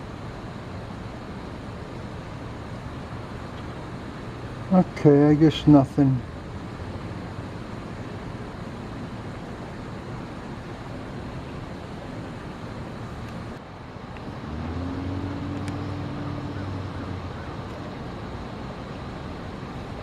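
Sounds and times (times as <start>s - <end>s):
low engine hum: 0.0s - 20.0s
road traffic hiss: 0.0s - 20.0s.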